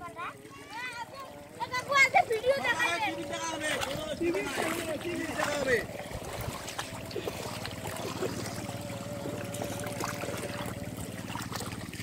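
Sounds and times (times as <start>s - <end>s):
small splashes: 0.0s - 12.0s
water sloshing and trickling: 0.0s - 12.0s.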